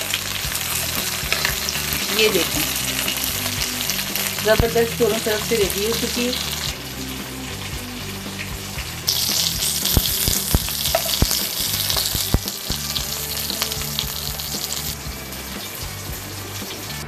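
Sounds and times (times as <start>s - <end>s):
oil sizzling in a frying pan: 0.0s - 17.0s.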